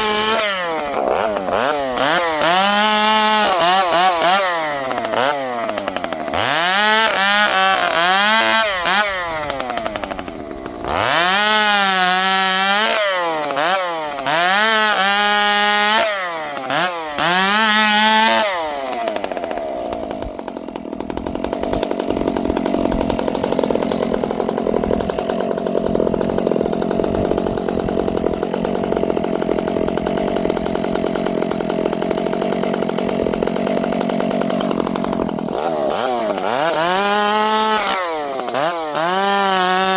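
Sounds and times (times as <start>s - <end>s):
chainsaw revving and cutting wood: 0.0s - 39.9s.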